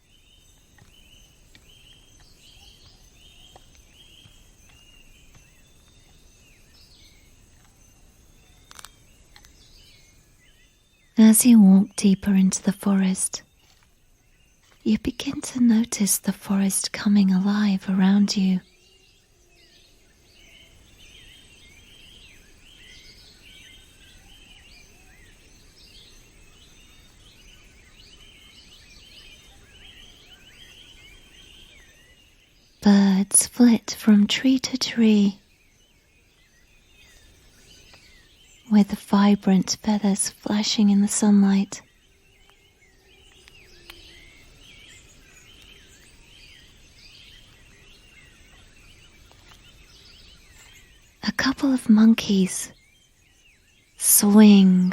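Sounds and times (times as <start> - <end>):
birds chirping and warbling: 0.0 - 54.9
soft low hiss: 0.0 - 54.9.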